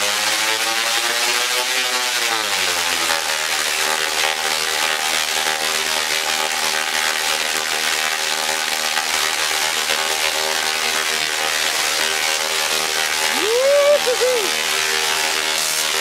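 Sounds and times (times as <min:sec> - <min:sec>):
tesla coil loud pitched buzz: 0:00.0 - 0:16.0.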